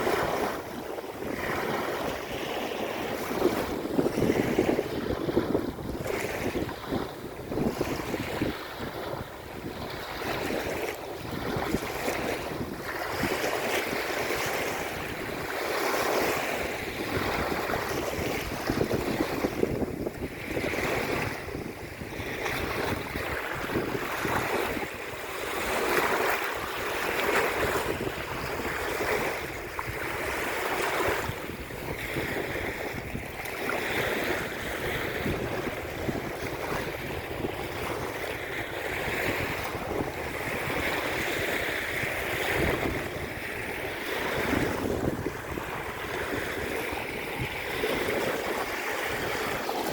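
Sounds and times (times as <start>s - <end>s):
sea waves breaking on shore: 0.0s - 49.9s
wind buffeting microphone: 0.0s - 49.9s.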